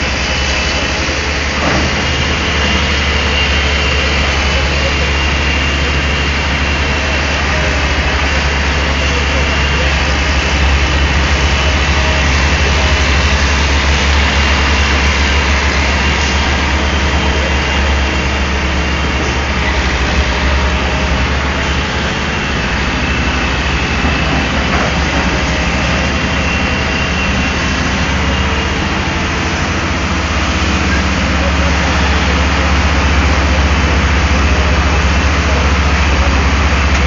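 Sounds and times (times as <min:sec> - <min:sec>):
excavator diesel engine droning: 0:00.0 - 0:37.0.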